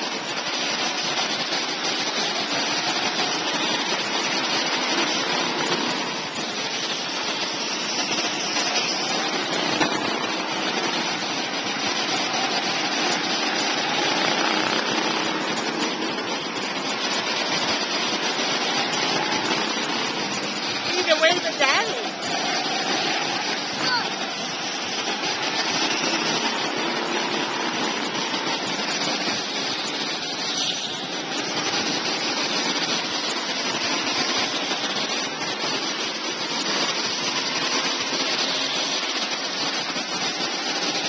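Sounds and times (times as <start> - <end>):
go-kart engines droning: 0.0 - 41.0.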